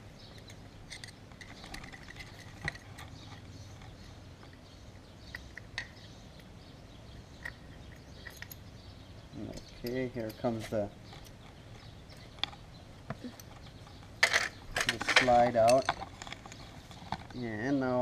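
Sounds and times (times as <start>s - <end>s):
small metal clicks and ticks: 0.2s - 6.5s, 7.4s - 8.6s, 9.4s - 17.5s.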